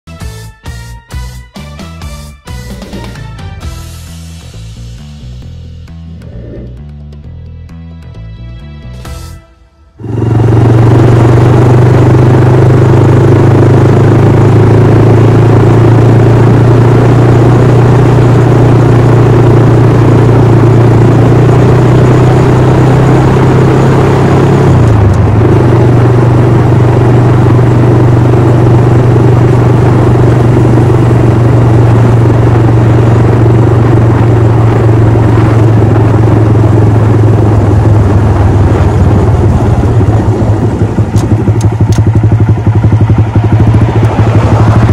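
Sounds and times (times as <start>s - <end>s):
motorcycle engine cruising: 0.0s - 7.8s, 10.0s - 44.9s.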